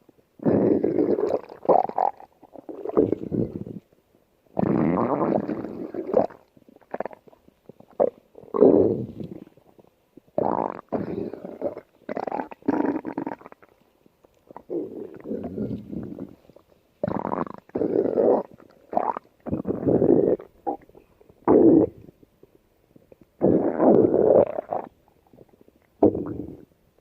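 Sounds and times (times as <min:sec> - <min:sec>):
stomach growling: 0:00.1 - 0:26.8.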